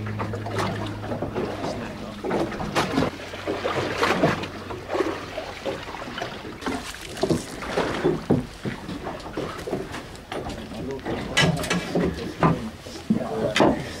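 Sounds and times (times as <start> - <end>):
low engine hum: 0.0 - 14.0
water splashing against boat hull: 0.0 - 14.0.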